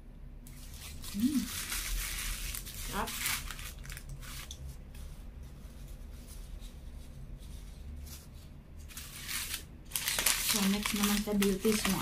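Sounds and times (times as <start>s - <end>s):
low room hum: 0.0s - 12.0s
paper wrapper rustling: 0.5s - 12.0s.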